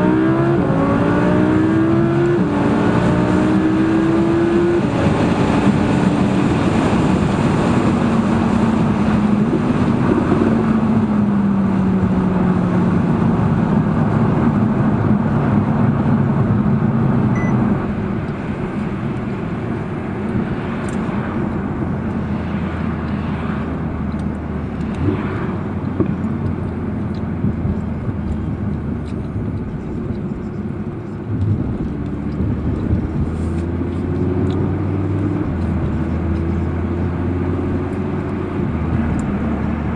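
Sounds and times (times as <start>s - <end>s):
car engine: 0.0s - 39.9s
road and wind noise: 0.0s - 39.9s.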